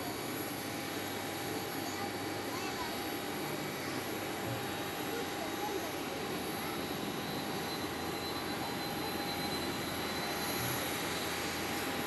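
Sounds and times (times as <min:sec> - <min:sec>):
jet engines idling with whine: 0:00.0 - 0:12.0.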